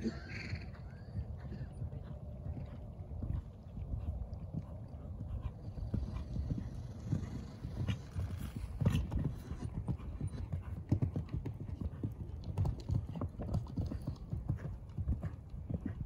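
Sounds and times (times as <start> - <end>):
horse hoofbeats on sand: 1.4 - 16.0.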